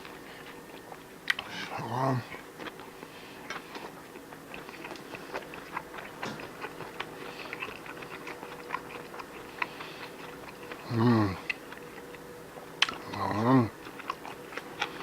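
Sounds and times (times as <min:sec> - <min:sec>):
faint steady hum: 0:00.0 - 0:15.0
person chewing and biting food: 0:00.0 - 0:15.0.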